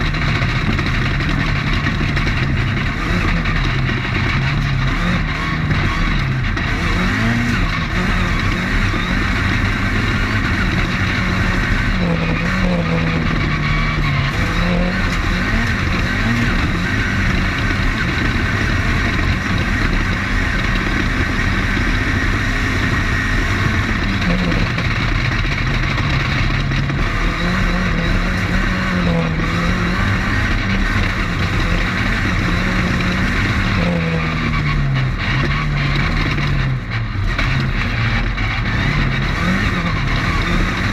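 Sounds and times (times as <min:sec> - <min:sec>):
constant din: 0:00.0 - 0:40.9
race car engine running hard: 0:00.0 - 0:40.9.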